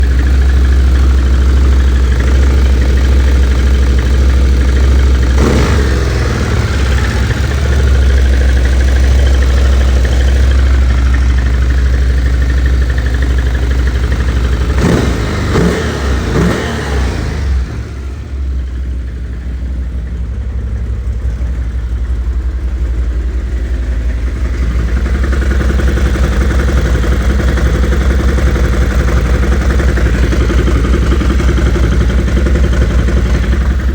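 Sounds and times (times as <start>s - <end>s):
atv engine idling and revving: 0.0s - 33.9s.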